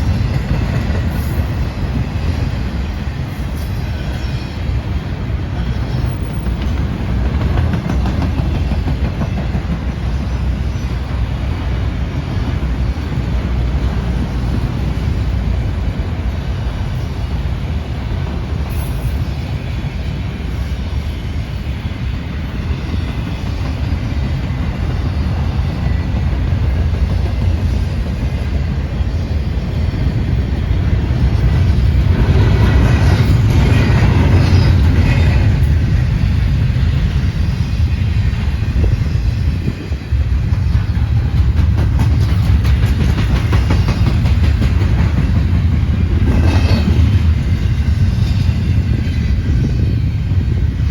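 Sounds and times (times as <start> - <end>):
train rumbling past: 0.0 - 50.9.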